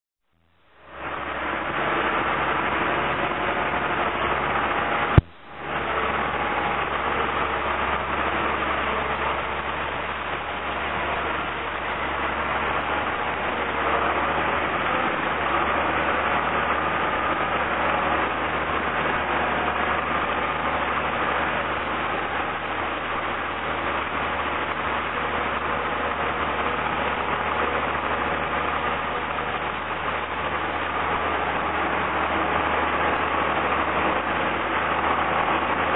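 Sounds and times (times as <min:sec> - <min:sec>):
diesel engine running: 0:00.2 - 0:35.9.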